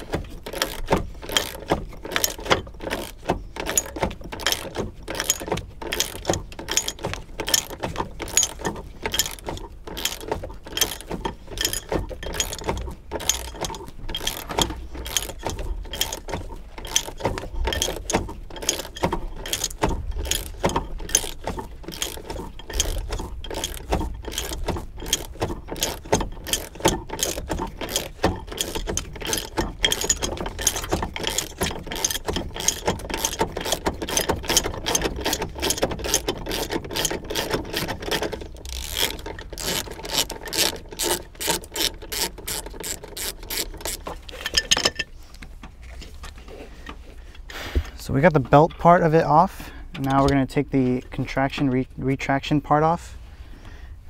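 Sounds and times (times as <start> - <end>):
hand ratchet clicking: 0.0 - 45.1.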